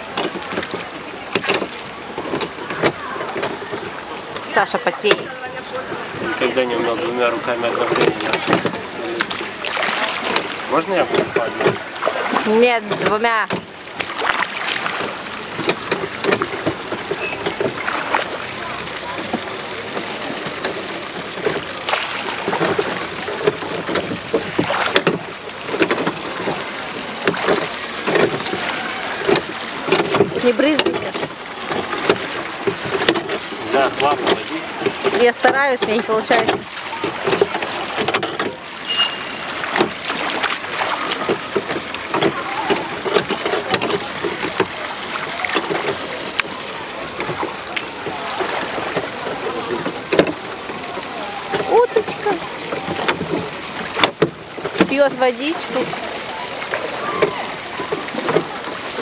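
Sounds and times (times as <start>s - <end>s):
oars knocking against boat: 0.0s - 59.0s
oars splashing in water: 0.0s - 59.0s.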